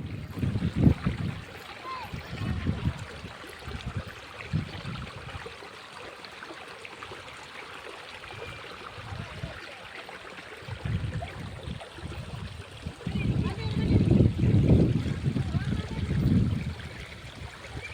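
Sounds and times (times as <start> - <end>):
stream water trickling: 0.0 - 17.9.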